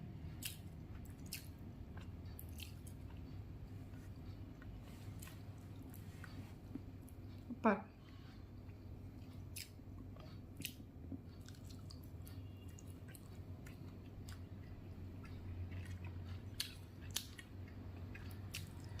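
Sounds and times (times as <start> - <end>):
low steady hum: 0.0 - 19.0
person chewing: 0.2 - 7.4, 8.1 - 19.0.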